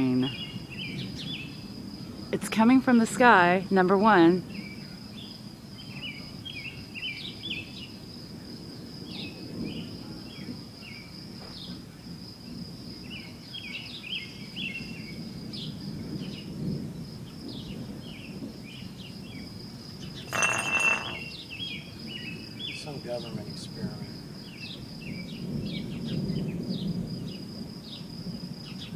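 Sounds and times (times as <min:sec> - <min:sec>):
high insect drone: 0:04.4 - 0:28.9.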